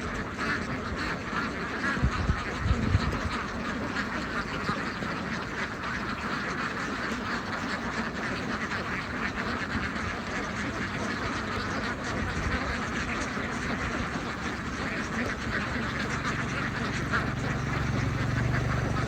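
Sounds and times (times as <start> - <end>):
flock of ducks quacking: 0.0 - 19.0.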